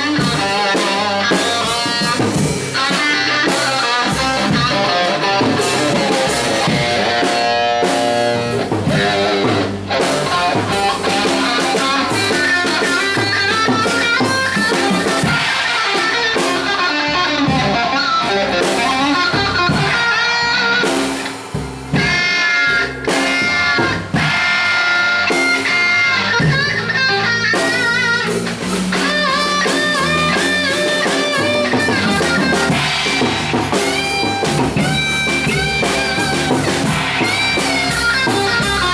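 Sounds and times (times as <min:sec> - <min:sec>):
drum kit: 0:00.0 - 0:38.9
electric guitar lead: 0:00.0 - 0:38.9
rhythm guitar: 0:00.0 - 0:38.9.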